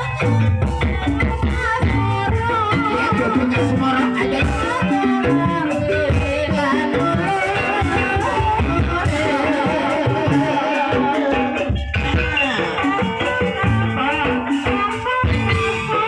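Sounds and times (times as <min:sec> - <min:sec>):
steady drumming: 0:00.0 - 0:16.0.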